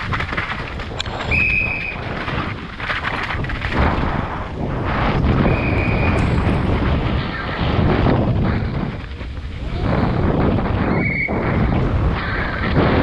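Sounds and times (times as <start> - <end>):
bike knocking over rough ground: 0.0 - 13.0
tyres rolling on dirt and gravel: 0.0 - 13.0
wind buffeting microphone: 0.0 - 13.0.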